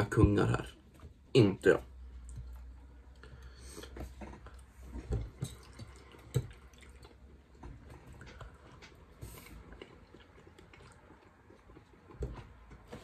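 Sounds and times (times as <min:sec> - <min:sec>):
wet chewing: 0:01.9 - 0:13.0.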